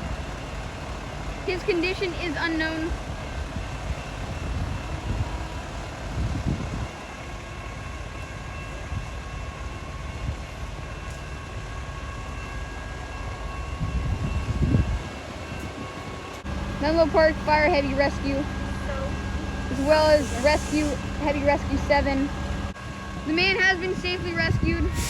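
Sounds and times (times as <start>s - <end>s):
train idling low rumble: 0.0s - 25.0s.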